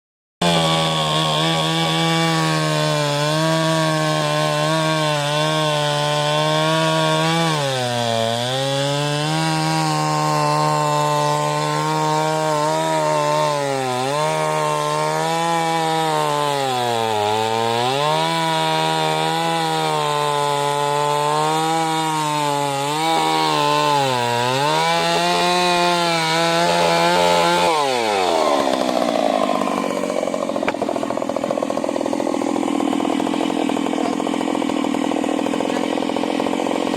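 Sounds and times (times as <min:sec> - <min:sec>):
chainsaw sawing log: 0:00.4 - 0:36.9.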